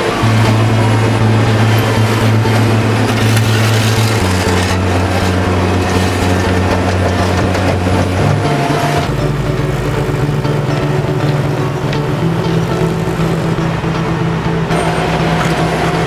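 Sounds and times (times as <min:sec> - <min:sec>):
machinery noise: 0:00.0 - 0:16.0
paver engine humming: 0:00.0 - 0:16.0.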